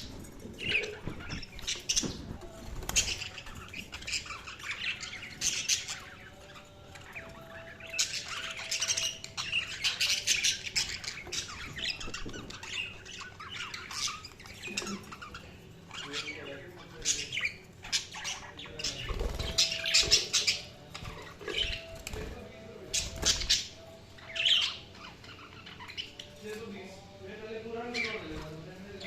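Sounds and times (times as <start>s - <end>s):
budgerigars chirping and chattering: 0.0s - 29.0s.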